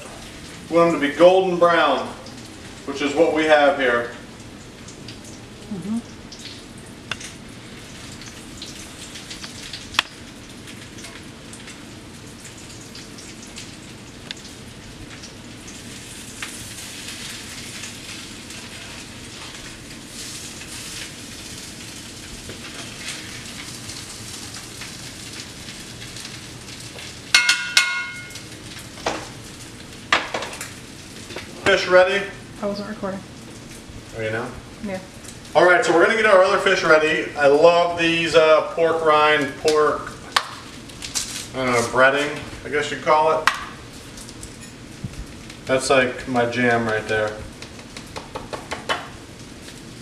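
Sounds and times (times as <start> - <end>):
fish cakes sizzling in oil: 0.0 - 32.6, 33.2 - 50.0.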